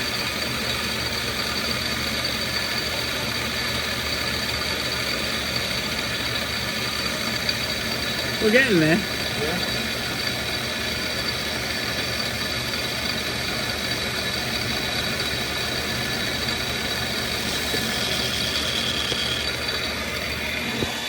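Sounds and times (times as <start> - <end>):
metal lathe cutting: 0.0 - 21.0.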